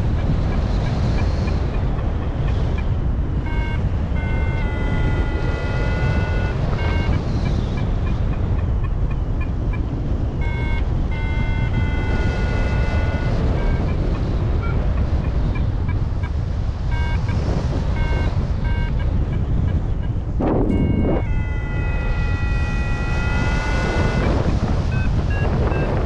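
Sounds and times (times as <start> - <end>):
variometer beeping: 0.0 - 26.0
wind rushing over microphone: 0.0 - 26.0.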